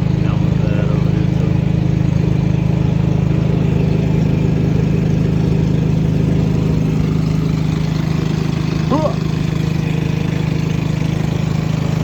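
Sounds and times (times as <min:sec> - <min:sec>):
large engine idling: 0:00.0 - 0:12.0.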